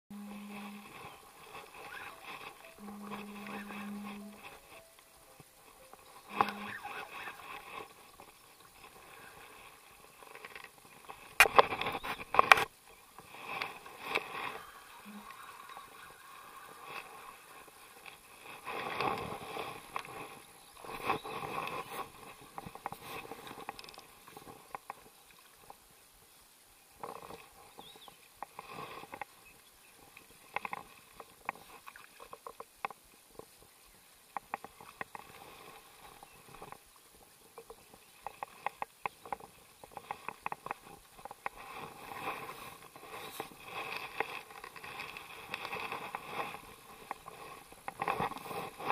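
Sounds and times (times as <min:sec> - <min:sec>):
fishing gear rustles and clicks: 0:00.2 - 0:25.9, 0:27.0 - 0:48.9.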